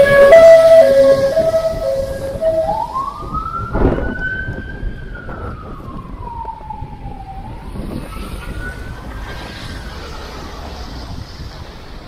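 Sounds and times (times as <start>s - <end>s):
emergency siren wailing: 0.0s - 11.2s
traffic rumble: 0.0s - 12.0s
wind: 0.0s - 12.0s.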